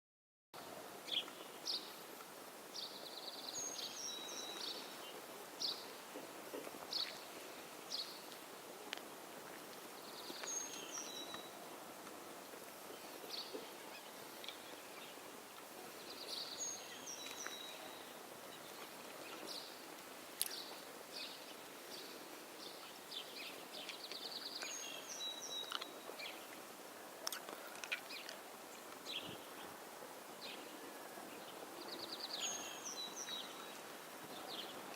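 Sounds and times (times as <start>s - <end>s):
background hiss: 0.6s - 34.9s
songbirds chirping and trilling: 0.9s - 34.9s.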